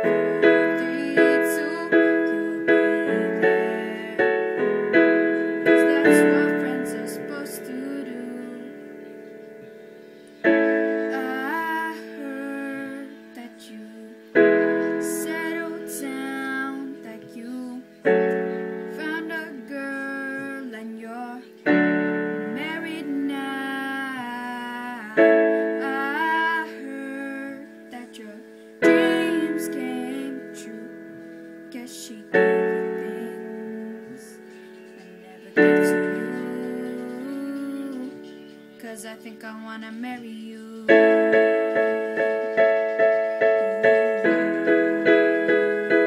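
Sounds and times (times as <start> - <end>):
girl singing pop melody: 0.0 - 9.8, 10.5 - 42.8, 43.5 - 46.0
piano chords ringing: 0.0 - 46.0.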